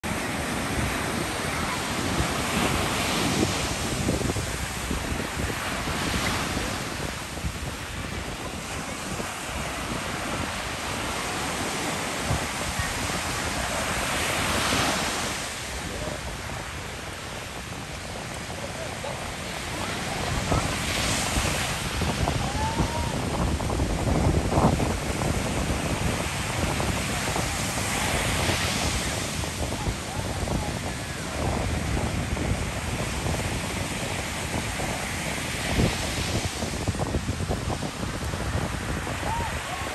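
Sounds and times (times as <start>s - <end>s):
small ocean waves breaking: 0.0s - 39.9s
wind buffeting microphone: 0.0s - 39.9s.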